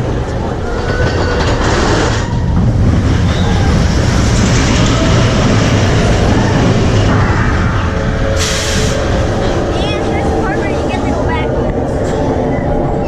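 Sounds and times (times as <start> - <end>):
roller coaster wheels rumbling: 0.0 - 13.0
rush of ride: 0.0 - 13.0.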